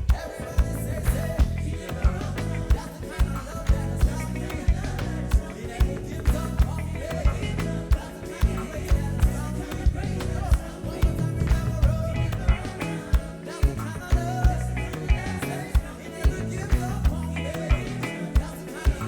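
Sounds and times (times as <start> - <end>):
reggae band playing: 0.0 - 19.0.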